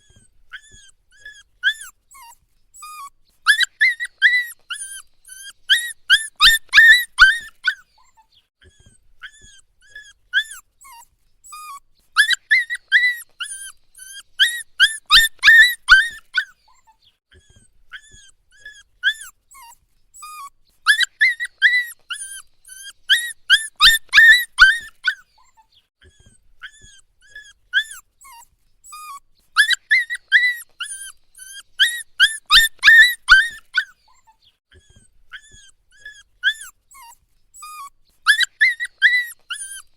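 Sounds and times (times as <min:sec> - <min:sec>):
puppy whining: 0:00.0 - 0:39.9.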